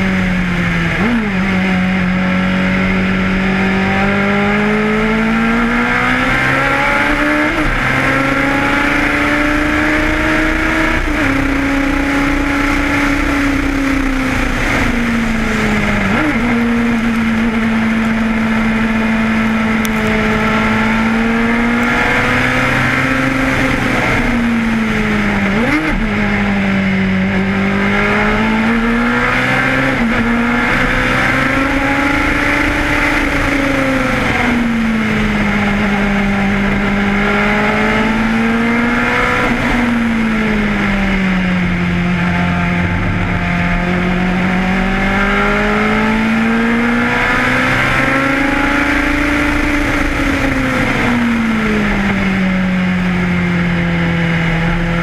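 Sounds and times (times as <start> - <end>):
racing car engine: 0.0 - 55.0.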